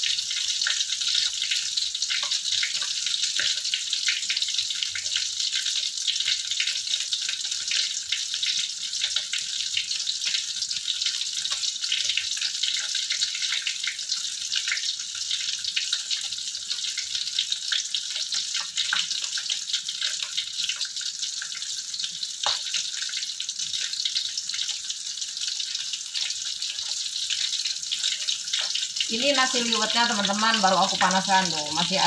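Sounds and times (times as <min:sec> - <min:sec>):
fish sizzling and popping in oil: 0:00.0 - 0:32.0.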